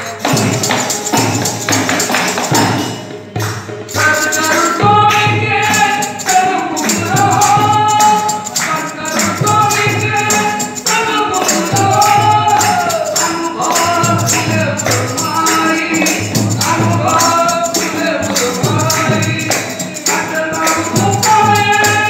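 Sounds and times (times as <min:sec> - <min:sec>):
jingling hand percussion: 0:00.0 - 0:22.0
person singing devotional song: 0:00.0 - 0:22.0.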